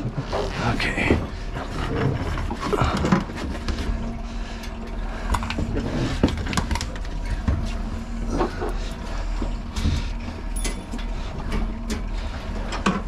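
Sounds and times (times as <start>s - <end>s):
boat engine droning: 0.0s - 13.0s
steady hum: 0.0s - 13.0s.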